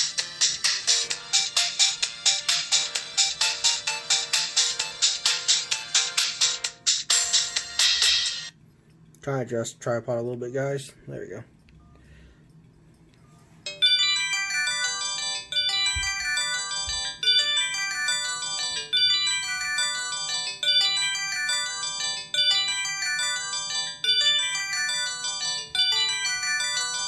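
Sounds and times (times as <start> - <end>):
phone polyphonic ringtone: 0.0 - 8.5, 13.2 - 27.0.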